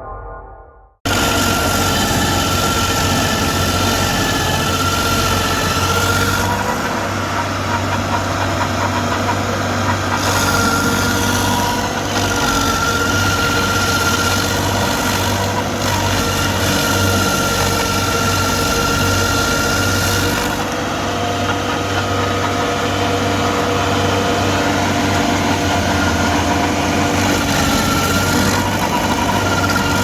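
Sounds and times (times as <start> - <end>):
stump grinder engine whining: 1.1 - 30.0.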